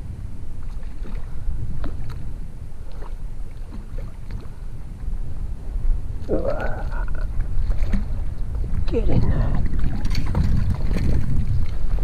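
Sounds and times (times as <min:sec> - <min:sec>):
faint water splashes: 0:00.0 - 0:12.0
wind rumble on microphone: 0:00.0 - 0:12.0.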